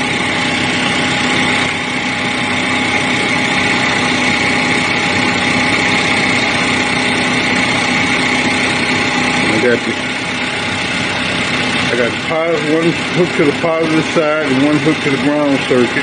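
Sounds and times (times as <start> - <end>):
car engine idling with whine: 0.0 - 16.0.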